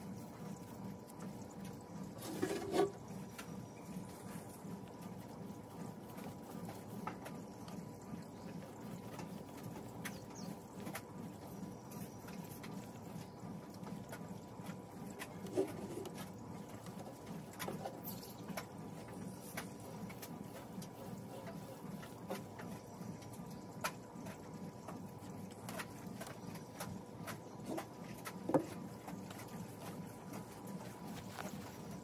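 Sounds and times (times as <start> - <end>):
foam paint roller rolling: 0.0 - 32.0
steady low hum: 0.0 - 32.0.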